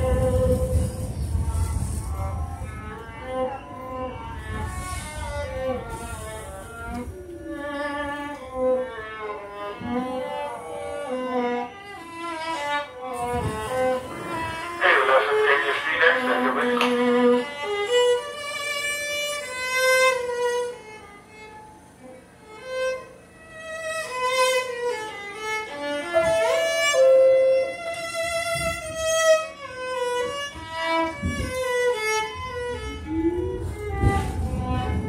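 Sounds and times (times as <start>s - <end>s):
solo violin melody: 0.0s - 35.0s.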